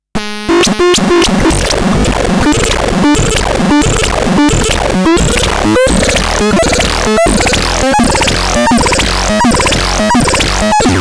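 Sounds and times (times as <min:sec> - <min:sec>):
harsh electronic noise music: 0:00.2 - 0:11.0.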